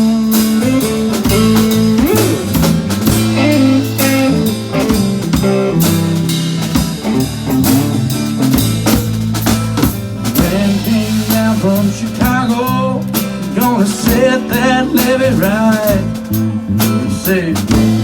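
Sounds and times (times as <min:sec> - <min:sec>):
drum kit steady beat: 0:00.0 - 0:18.0
guitar bending notes: 0:00.0 - 0:18.0.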